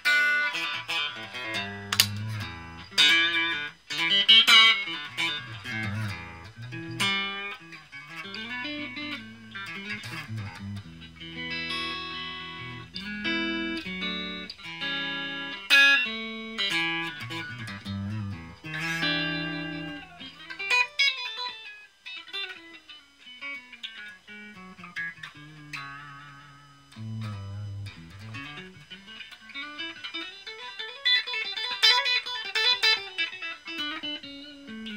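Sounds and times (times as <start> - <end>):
electric guitar notes and chords: 0.0 - 34.9.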